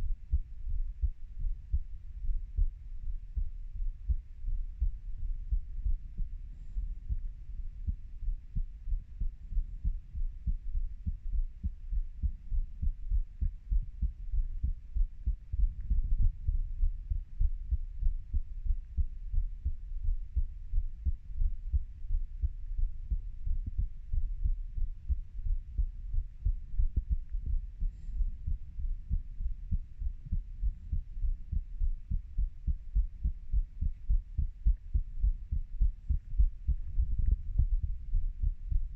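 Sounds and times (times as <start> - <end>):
heartbeat: 0.0 - 38.9.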